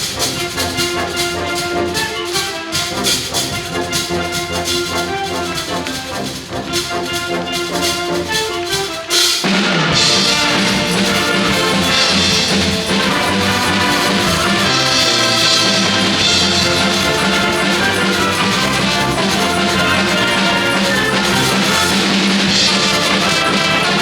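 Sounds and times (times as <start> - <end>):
drum kit beat: 0.0 - 24.0
trumpets and trombones chords: 0.0 - 24.0
wind band playing: 0.0 - 24.0.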